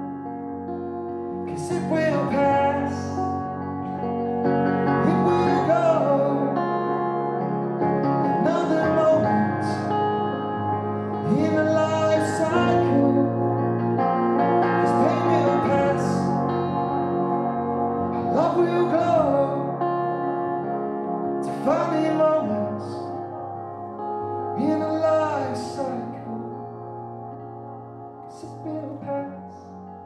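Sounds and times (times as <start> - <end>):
electric guitar melody with echo: 0.0 - 30.0.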